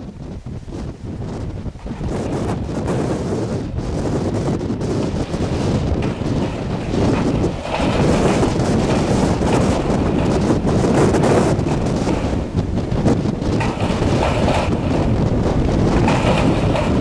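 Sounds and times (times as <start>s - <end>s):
wind gusts buffeting microphone: 0.0s - 17.0s.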